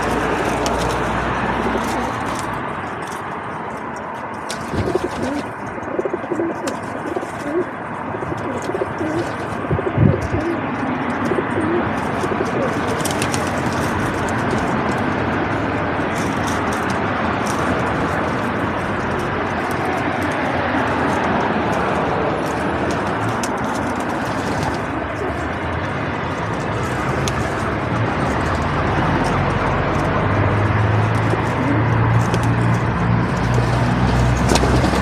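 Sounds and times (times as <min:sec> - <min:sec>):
pigeons cooing: 0:00.0 - 0:03.2, 0:04.5 - 0:35.0.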